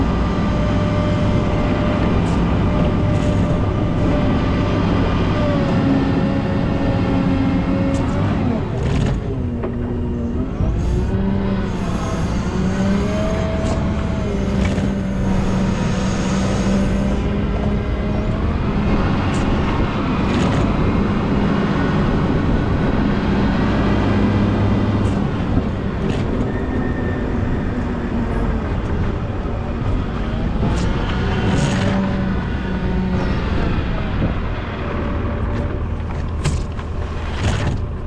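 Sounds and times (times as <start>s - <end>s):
diesel engine revving under load: 0.0s - 38.0s.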